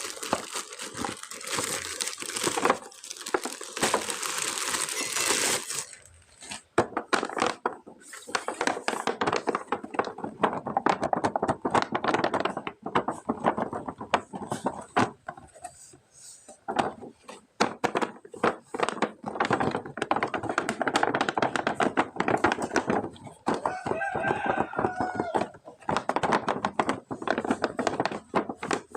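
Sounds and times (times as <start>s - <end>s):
packaging thunks: 0.0s - 15.2s, 17.6s - 28.9s
crinkling plastic and cardboard: 0.0s - 28.9s.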